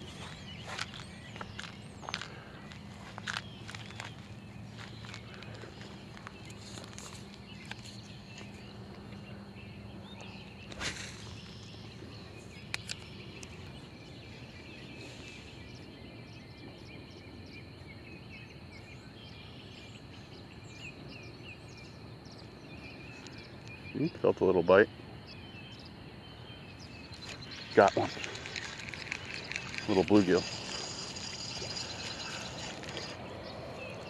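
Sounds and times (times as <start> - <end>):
high wildlife chirps: 0.0 - 34.0.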